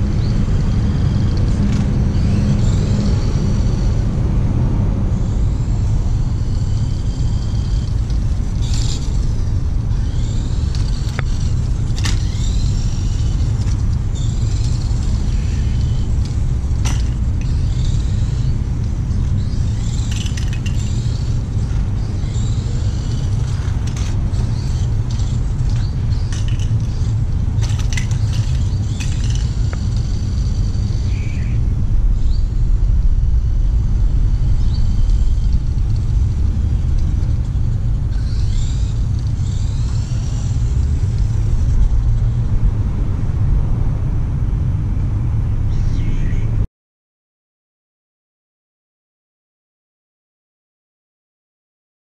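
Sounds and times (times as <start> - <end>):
small electric motor whining: 0.0 - 43.5
low rumble: 0.0 - 46.6.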